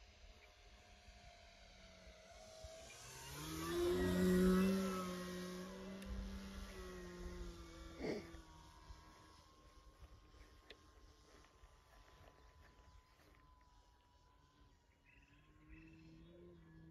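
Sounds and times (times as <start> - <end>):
model plane propeller buzzing: 0.0 - 16.9.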